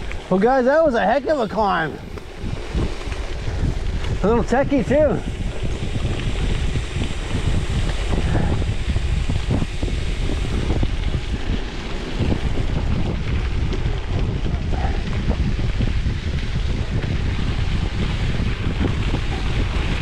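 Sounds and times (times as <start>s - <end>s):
low rumble: 0.0s - 20.0s
wind buffeting microphone: 0.0s - 20.0s.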